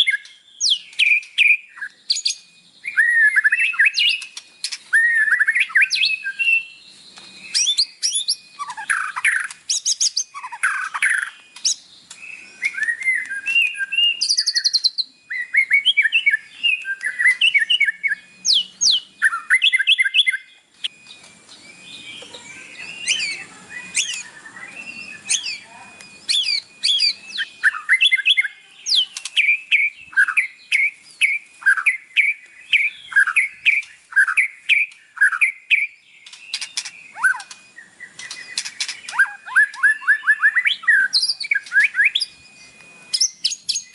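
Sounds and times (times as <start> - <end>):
songbird singing whistles and trills: 0.0 - 43.9.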